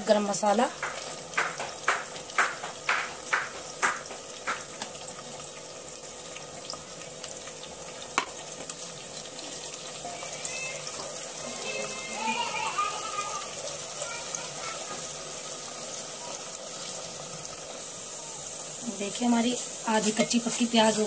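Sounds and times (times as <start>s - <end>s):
onions and chicken sizzling in oil: 0.0s - 21.0s
sharp crackles of spices: 0.0s - 21.0s.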